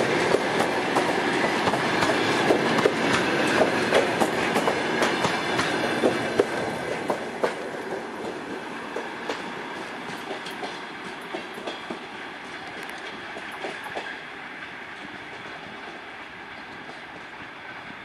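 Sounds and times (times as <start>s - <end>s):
train wheels clicking over rail joints: 0.0s - 17.6s.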